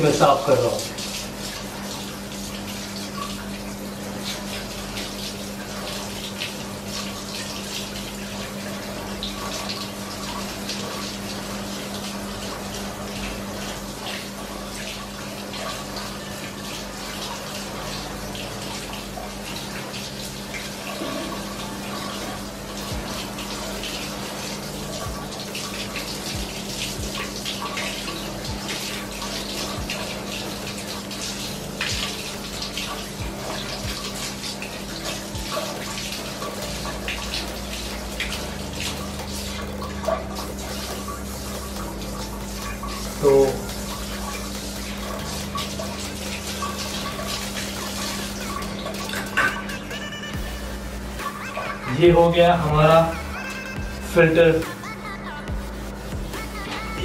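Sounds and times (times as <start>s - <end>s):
water spraying and splashing: 0.0s - 54.8s.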